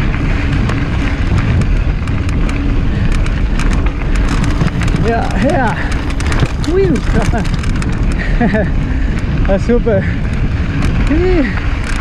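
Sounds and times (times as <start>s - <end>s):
bike tyres on rocky trail: 0.0s - 12.0s
wind buffeting microphone: 0.0s - 12.0s
clicks and rattles: 0.4s - 8.6s, 10.3s - 12.0s.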